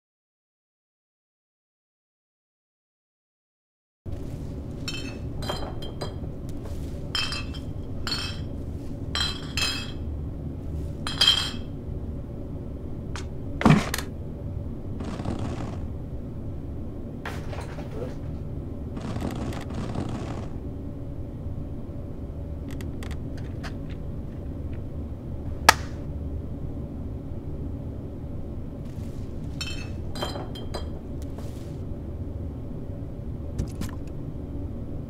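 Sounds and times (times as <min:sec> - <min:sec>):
low room hum: 0:04.1 - 0:35.0.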